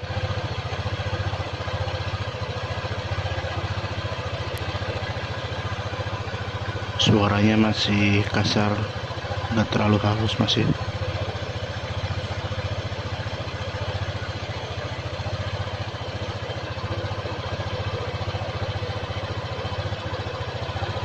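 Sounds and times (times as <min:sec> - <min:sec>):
scooter engine idling: 0:00.0 - 0:21.0.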